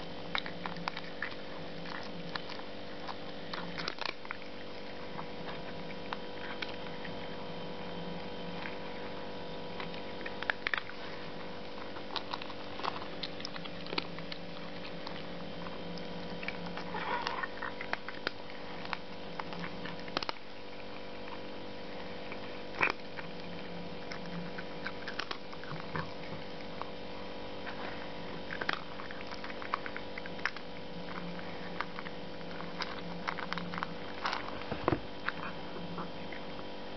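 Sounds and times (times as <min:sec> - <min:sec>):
electrical hum: 0:00.0 - 0:36.9.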